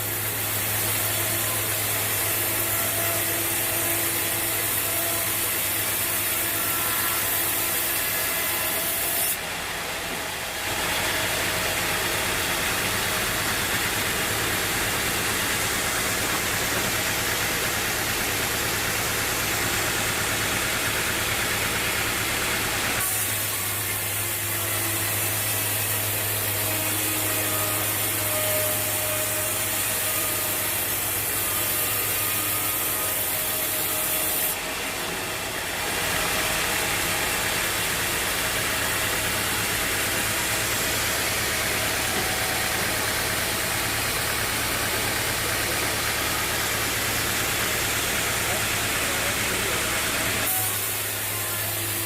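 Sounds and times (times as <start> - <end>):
saw working: 0.0 - 52.0.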